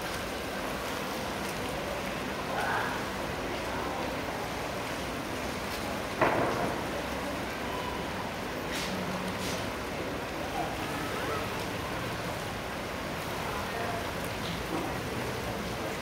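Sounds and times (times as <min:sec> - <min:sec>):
water lapping over pavement: 0:00.0 - 0:16.0.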